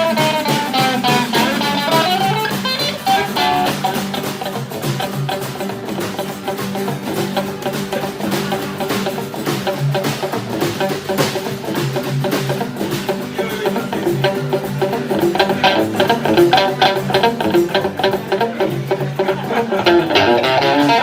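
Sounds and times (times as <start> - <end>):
electric guitar playing: 0.0 - 21.0
live band music: 0.0 - 21.0.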